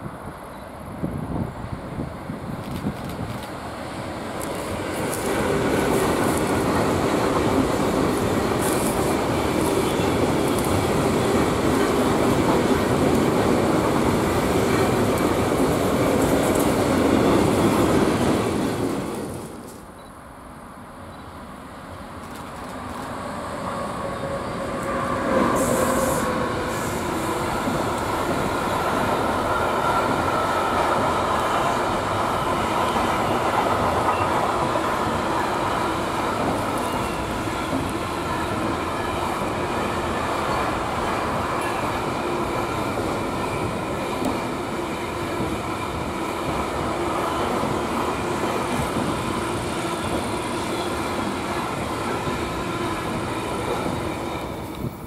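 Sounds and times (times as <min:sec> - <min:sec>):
freight train rumbling past: 0:00.0 - 0:19.8, 0:20.7 - 0:55.0.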